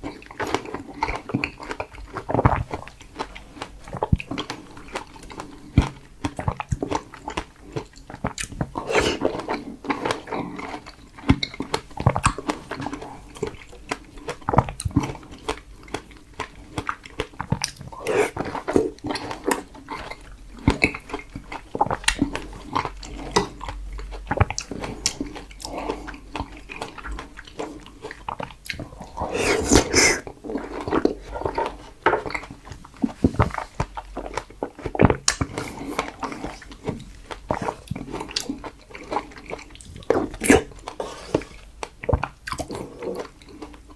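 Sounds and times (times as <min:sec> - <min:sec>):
biting and chewing strawberries: 0:00.0 - 0:43.9.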